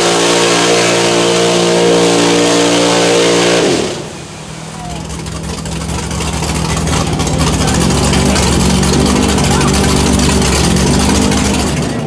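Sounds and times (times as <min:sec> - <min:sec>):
truck engine at full throttle: 0:00.0 - 0:12.0
wheels churning in mud: 0:00.0 - 0:12.0.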